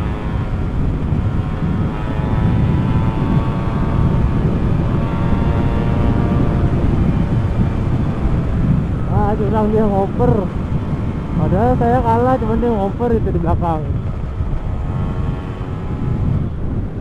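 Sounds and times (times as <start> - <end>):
two-stroke motorcycle engine: 0.0 - 17.0
wind buffeting microphone: 0.0 - 17.0.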